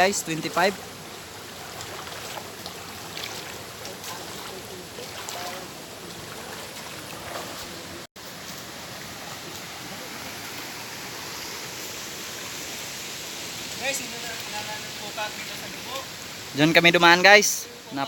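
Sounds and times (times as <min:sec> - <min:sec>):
mountain stream flowing: 0:00.0 - 0:18.0.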